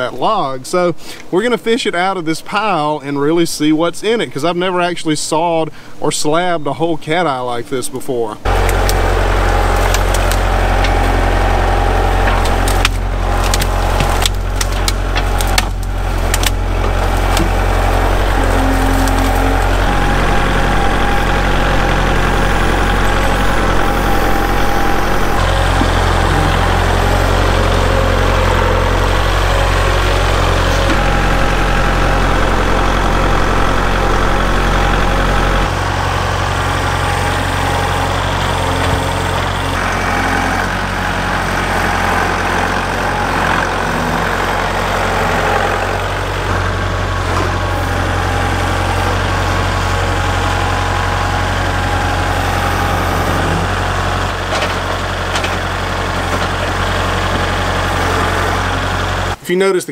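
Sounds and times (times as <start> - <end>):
tractor diesel engine running: 8.4 - 59.5.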